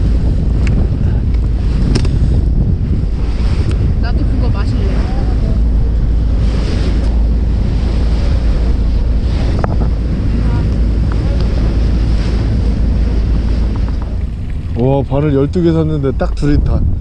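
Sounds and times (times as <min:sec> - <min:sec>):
sea washing: 0:00.0 - 0:17.0
wind buffeting microphone: 0:00.0 - 0:17.0.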